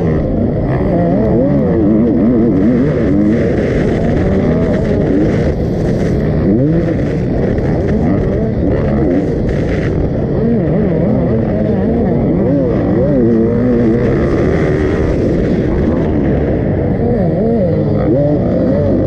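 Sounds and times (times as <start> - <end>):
two-stroke motorcycle engine revving: 0.0 - 19.0.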